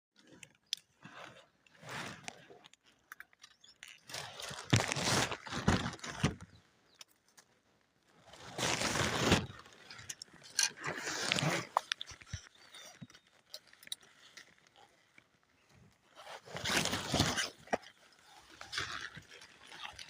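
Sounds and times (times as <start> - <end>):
crunching and rustling: 0.2 - 20.0.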